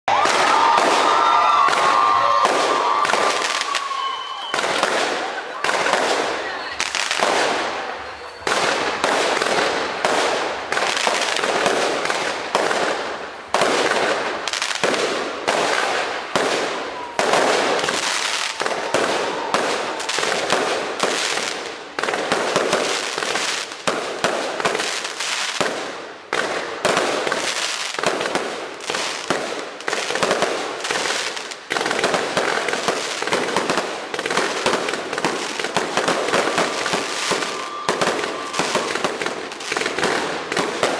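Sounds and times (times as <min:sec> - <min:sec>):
fireworks bangs and crackling: 0:00.1 - 0:40.9.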